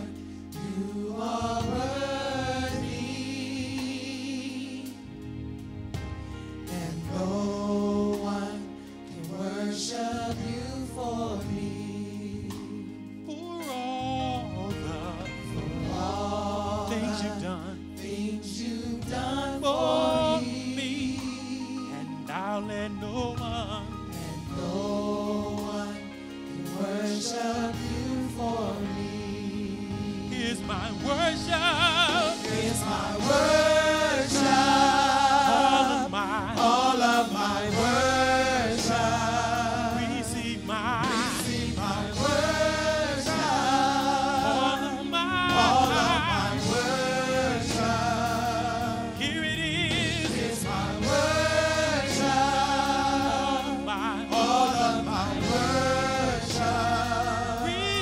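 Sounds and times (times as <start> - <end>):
vocal group singing: 0.0 - 5.4, 6.1 - 58.0.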